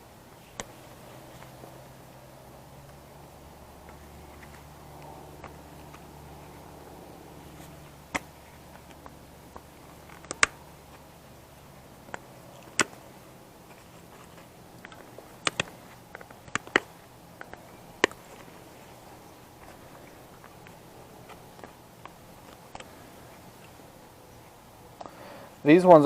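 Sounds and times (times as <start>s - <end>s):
plastic and metal parts clicking: 2.8s - 25.1s.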